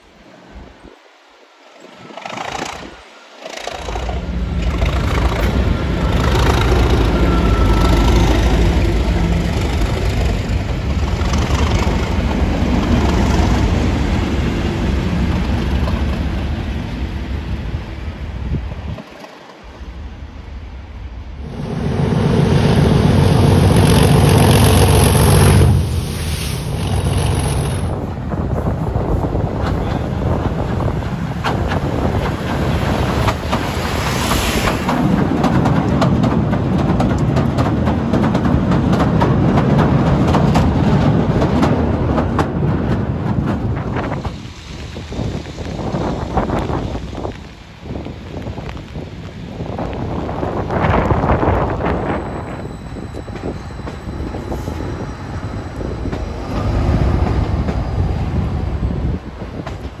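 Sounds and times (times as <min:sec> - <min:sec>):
wind noise on microphone: 0:01.9 - 1:00.0
train wheels clicking on rails: 0:02.1 - 0:17.7, 0:18.4 - 1:00.0.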